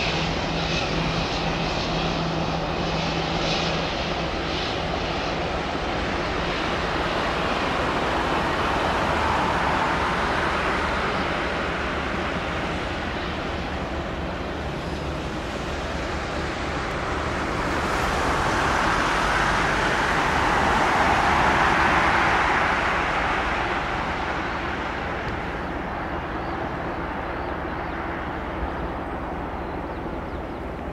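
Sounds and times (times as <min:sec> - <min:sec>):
jet engines rushing: 0:00.0 - 0:30.9.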